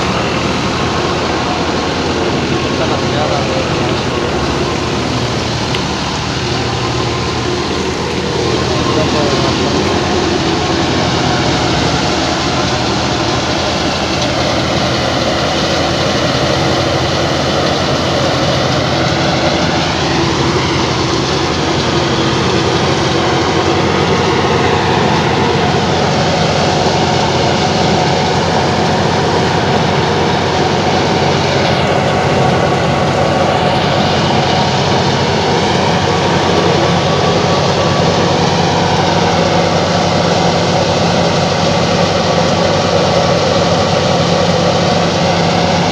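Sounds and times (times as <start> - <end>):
thresher machinery running: 0.0 - 45.9
tractor diesel engine running: 0.0 - 45.9.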